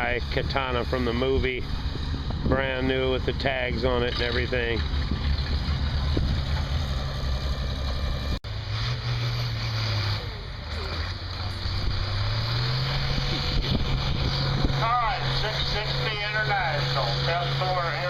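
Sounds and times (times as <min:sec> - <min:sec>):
engine running: 0:00.0 - 0:18.0
low engine hum: 0:00.0 - 0:18.0.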